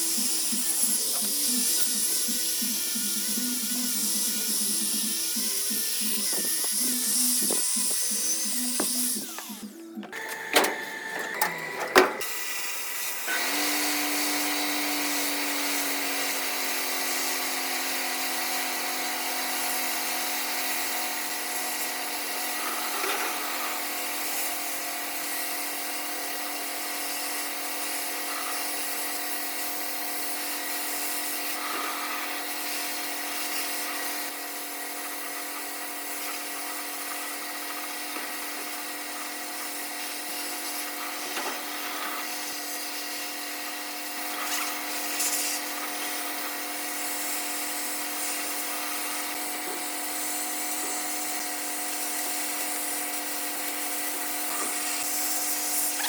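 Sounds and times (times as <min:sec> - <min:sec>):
electric power tool running: 0:00.0 - 0:56.0.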